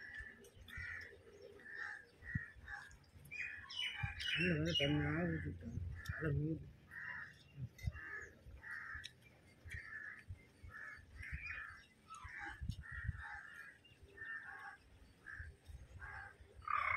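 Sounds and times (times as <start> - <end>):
crows cawing: 0.0 - 4.2, 6.9 - 16.9.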